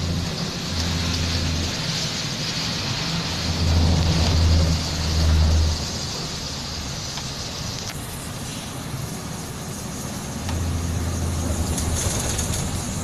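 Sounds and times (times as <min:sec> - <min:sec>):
bus engine droning: 0:00.0 - 0:13.0
tyres hissing on wet road: 0:00.0 - 0:13.0.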